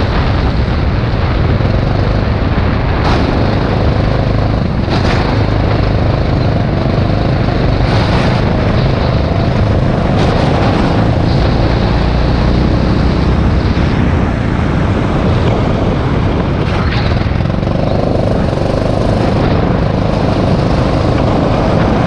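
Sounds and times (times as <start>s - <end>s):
go-kart engine running: 0.0s - 22.0s.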